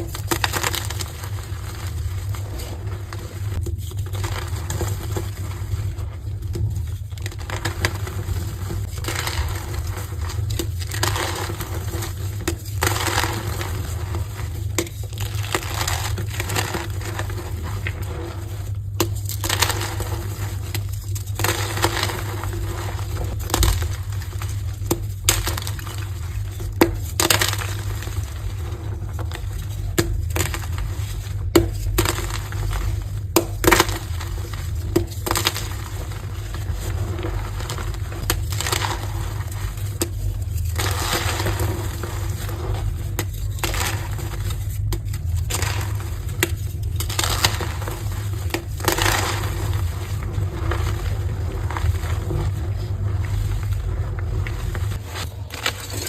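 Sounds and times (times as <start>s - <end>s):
chalk crunching and snapping: 0.0s - 56.0s.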